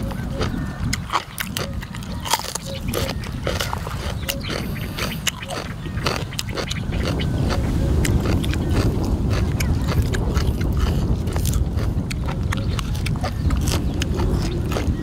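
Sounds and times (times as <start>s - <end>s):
chewing and wet mouth clicks: 0.0s - 15.0s
wind rumble on microphone: 0.0s - 15.0s.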